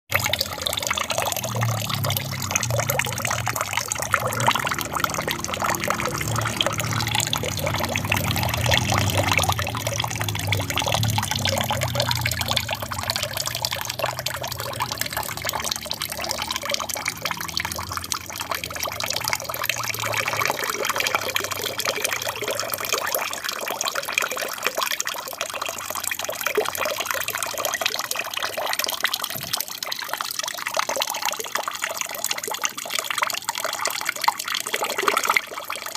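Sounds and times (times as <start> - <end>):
water trickling and splashing: 0.1 - 35.9.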